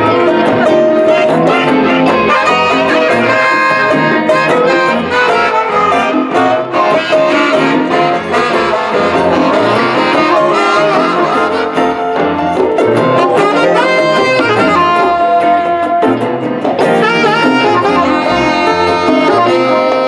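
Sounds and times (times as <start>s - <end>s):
acoustic guitar: 0.0s - 20.0s
bass: 0.0s - 20.0s
conga: 0.0s - 20.0s
electric guitars: 0.0s - 20.0s
saxophone: 0.0s - 20.0s.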